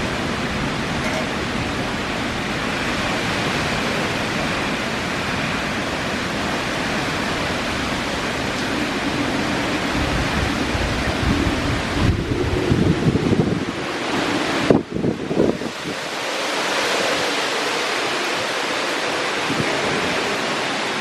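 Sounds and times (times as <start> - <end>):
wind and rain rushing: 0.0 - 21.0
wind buffeting microphone: 0.0 - 21.0.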